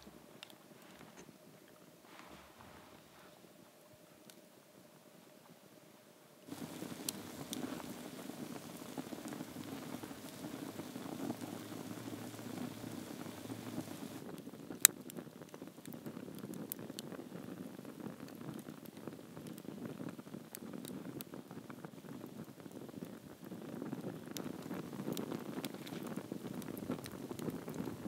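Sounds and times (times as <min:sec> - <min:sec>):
fire popping: 0:00.0 - 0:04.5, 0:06.4 - 0:28.0
campfire crackling: 0:00.0 - 0:05.8, 0:06.4 - 0:28.0.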